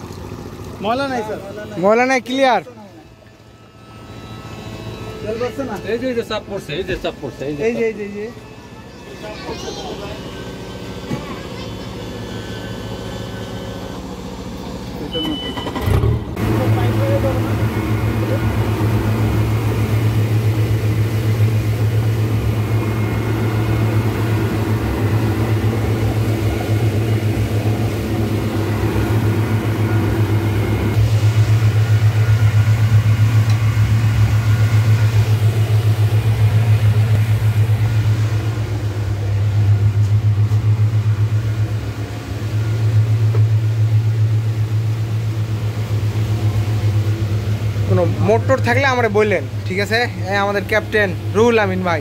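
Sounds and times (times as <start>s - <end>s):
outboard motors droning: 0.0s - 52.0s.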